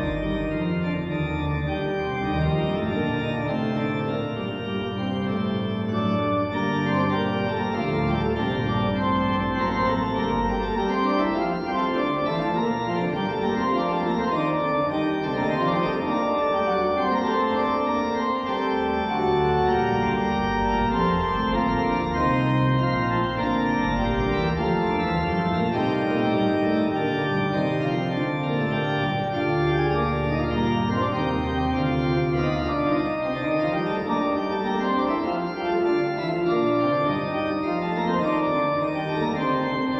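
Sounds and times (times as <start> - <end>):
pipe organ playing: 0.0 - 39.9.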